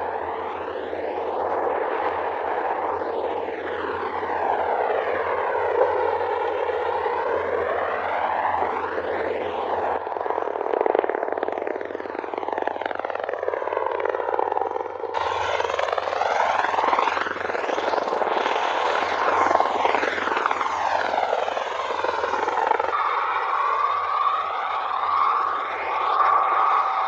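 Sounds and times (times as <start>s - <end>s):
aircraft rotor noise: 0.0s - 27.0s.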